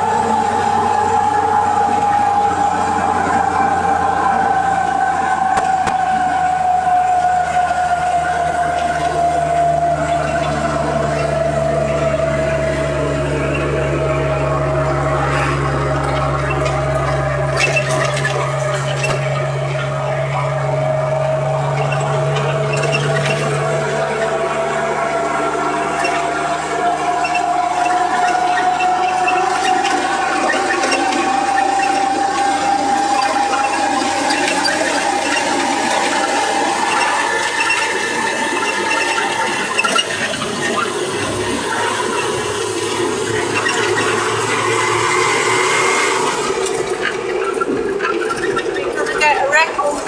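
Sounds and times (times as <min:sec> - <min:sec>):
high whine: 0:00.0 - 0:50.0
road noise: 0:00.0 - 0:50.0
truck engine running: 0:00.0 - 0:50.0.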